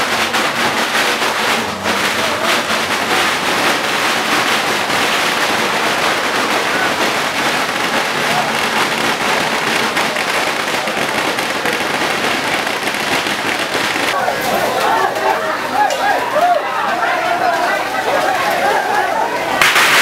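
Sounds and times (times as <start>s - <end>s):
crowd shouting: 0.0s - 20.0s
firecrackers crackling: 0.0s - 20.0s.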